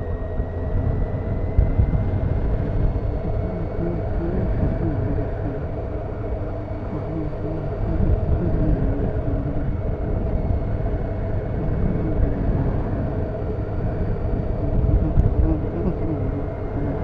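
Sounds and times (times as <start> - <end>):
motorcycle engine revving: 0.0 - 17.0
wind noise on microphone: 0.0 - 17.0.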